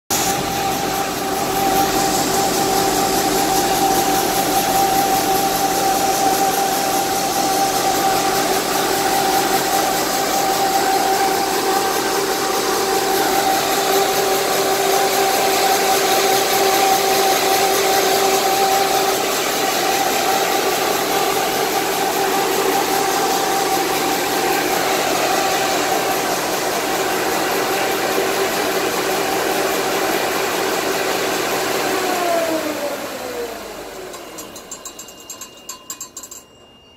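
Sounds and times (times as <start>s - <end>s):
generator engine running: 0.1s - 35.0s
constant whine: 0.2s - 28.7s, 32.6s - 36.9s.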